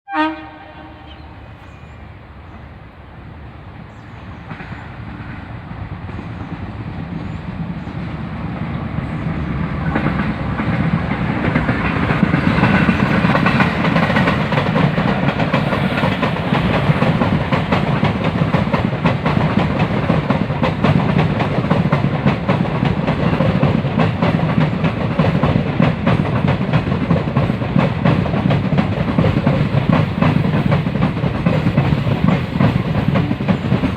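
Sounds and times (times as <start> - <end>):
train rumbling past: 0.1 - 33.9
wheels clacking over rail joints: 4.4 - 33.9.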